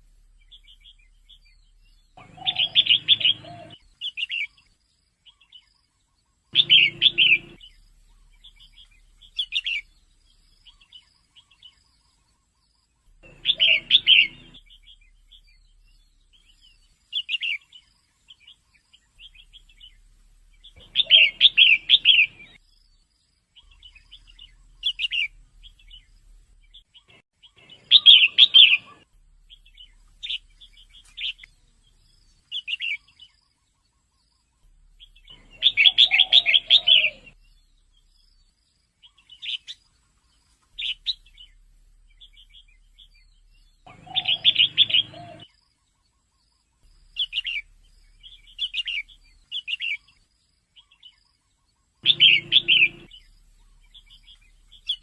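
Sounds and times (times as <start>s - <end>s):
bulbul chattering call: 0.4s - 4.6s, 6.5s - 12.5s, 13.1s - 22.6s, 23.6s - 26.1s, 26.7s - 33.8s, 34.6s - 38.2s, 40.8s - 46.0s, 46.9s - 50.2s, 52.0s - 55.0s.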